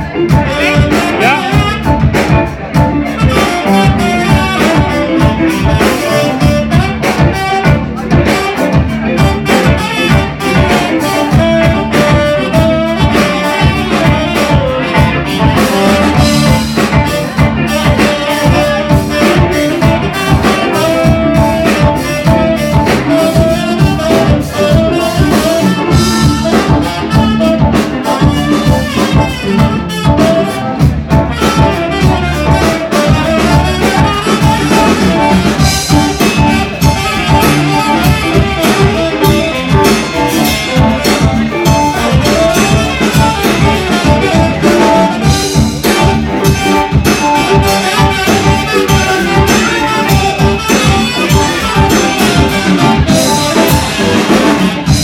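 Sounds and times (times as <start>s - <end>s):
drum kit beat: 0.0s - 55.0s
electric guitar: 0.0s - 55.0s
keyboard: 0.0s - 55.0s
saxophone: 0.0s - 55.0s.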